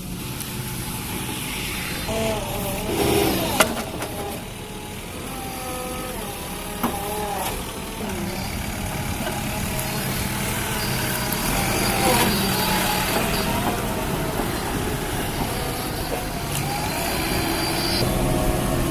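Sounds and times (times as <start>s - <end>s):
diesel engine working: 0.0s - 18.9s.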